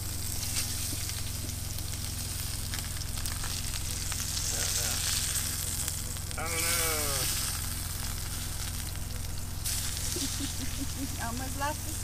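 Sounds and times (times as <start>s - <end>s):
fish sizzling in a frying pan: 0.0s - 12.0s
steady low hum: 0.0s - 12.0s.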